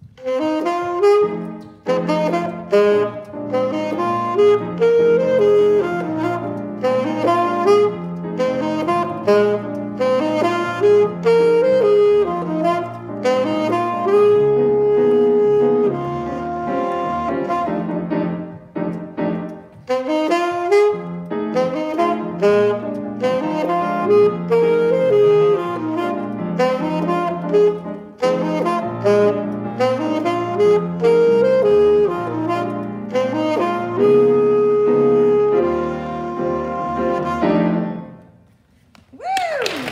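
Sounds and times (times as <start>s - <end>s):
saxophone jazz melody: 0.0s - 38.7s
piano accompaniment: 0.0s - 38.8s.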